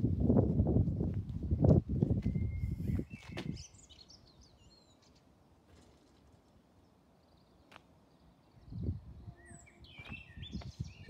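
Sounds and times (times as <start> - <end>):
faint birdsong: 2.1 - 11.0.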